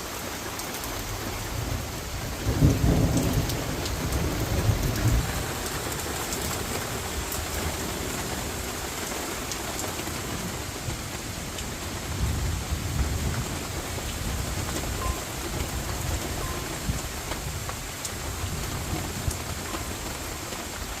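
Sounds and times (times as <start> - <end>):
heavy rain and hail pelting: 0.0 - 21.0.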